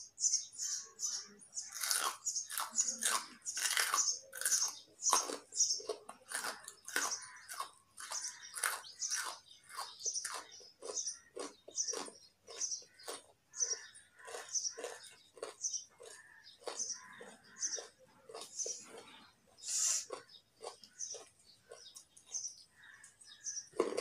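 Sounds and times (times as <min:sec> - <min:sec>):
raw carrot crunchy chewing: 0:01.6 - 0:24.0.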